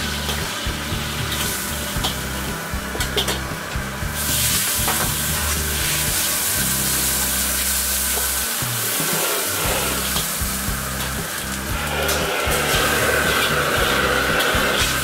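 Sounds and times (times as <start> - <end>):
background music: 0.0 - 15.0
brush scrubbing wok: 0.0 - 15.0
water sizzling in hot wok: 0.0 - 15.0.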